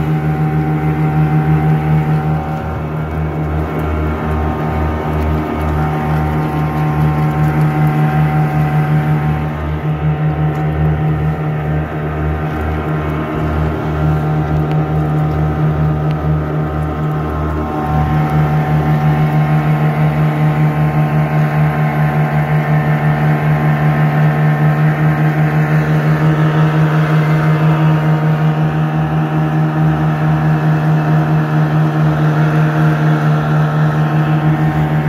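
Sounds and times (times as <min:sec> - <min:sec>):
outboard motor running: 0:00.0 - 0:35.0
water rushing past hull: 0:00.0 - 0:35.0.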